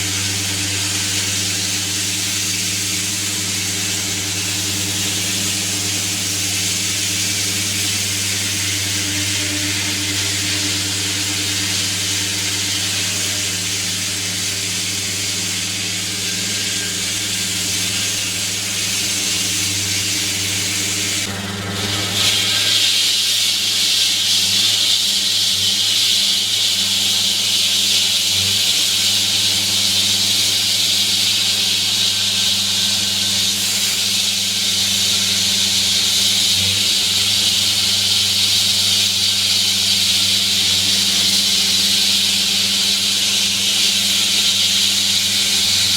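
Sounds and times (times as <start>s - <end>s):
concrete saw engine running: 0.0s - 45.9s
saw blade grinding pavement: 0.0s - 45.9s.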